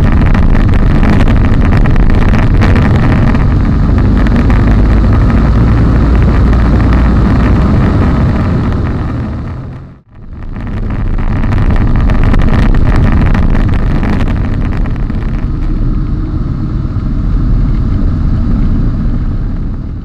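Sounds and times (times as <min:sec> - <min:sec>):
aircraft engine: 0:00.0 - 0:10.4, 0:13.3 - 0:20.0
rushing airflow: 0:00.0 - 0:20.0.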